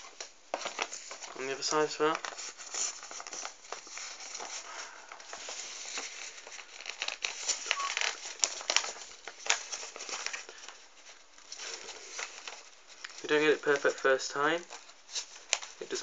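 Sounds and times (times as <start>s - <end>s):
paper crackles: 0.0s - 16.0s
paper rustling and crinkling: 0.0s - 16.0s.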